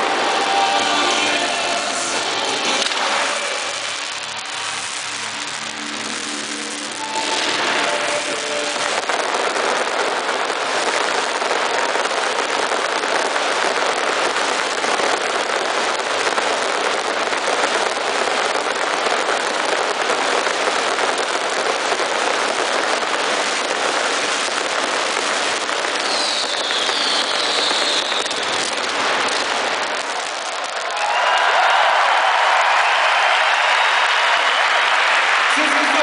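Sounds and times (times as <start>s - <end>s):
firework fountains hissing: 0.0s - 36.0s.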